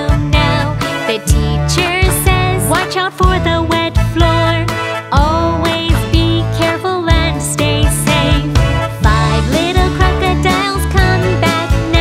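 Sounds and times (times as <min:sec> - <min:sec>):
children's song with beat: 0:00.0 - 0:12.0.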